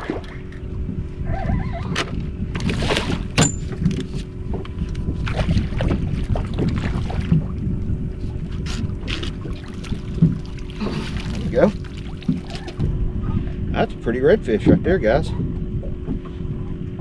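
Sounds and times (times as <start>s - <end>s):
water splashing and sloshing: 0.0s - 13.7s, 14.3s - 17.0s
wind rumbling on microphone: 0.0s - 17.0s.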